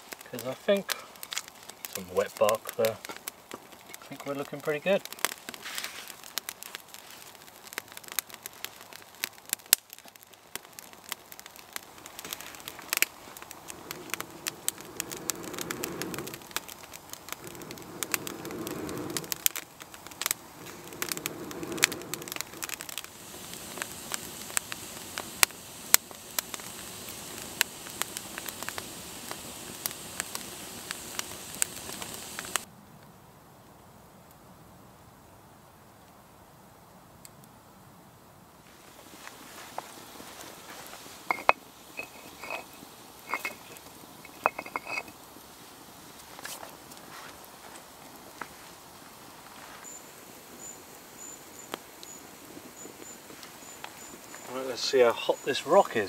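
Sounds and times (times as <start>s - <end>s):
campfire crackling and popping: 0.0s - 33.7s, 38.6s - 56.0s.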